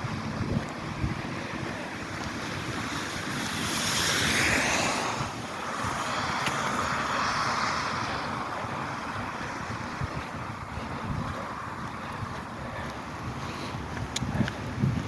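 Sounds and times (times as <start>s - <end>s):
tyres hissing on wet road: 0.0s - 14.8s
rain: 0.0s - 15.0s.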